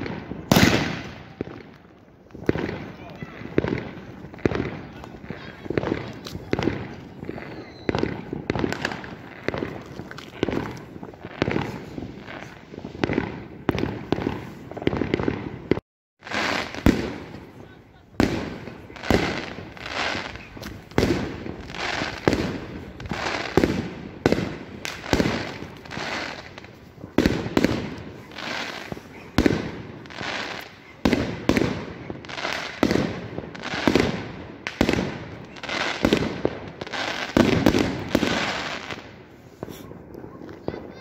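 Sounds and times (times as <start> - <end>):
fireworks bangs with crackle: 0.0 - 41.0.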